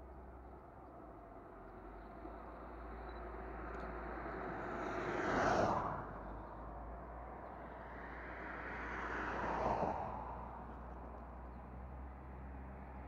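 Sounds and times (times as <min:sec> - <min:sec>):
road vehicles passing: 0:00.0 - 0:13.0.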